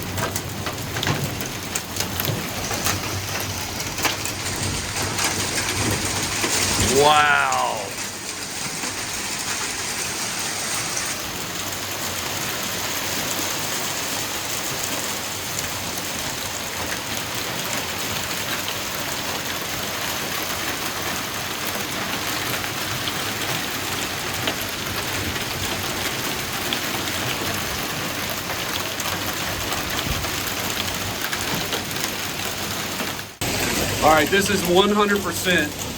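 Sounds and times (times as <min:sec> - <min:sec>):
hail and rain on hard surfaces: 0:00.0 - 0:35.9.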